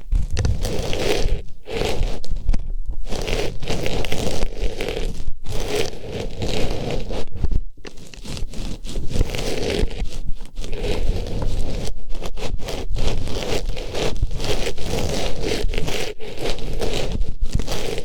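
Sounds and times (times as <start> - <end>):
rustling and scraping on microphone: 0.0 - 18.0.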